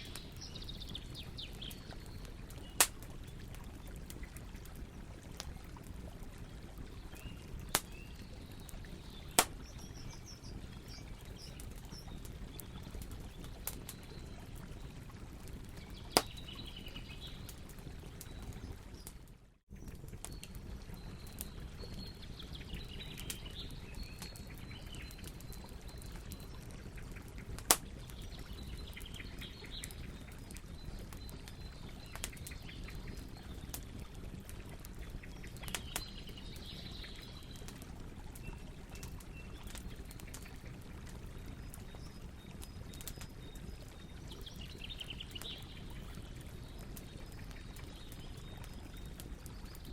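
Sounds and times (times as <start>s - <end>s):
campfire crackling: 0.0s - 49.9s
faint birds chirping: 0.0s - 49.9s.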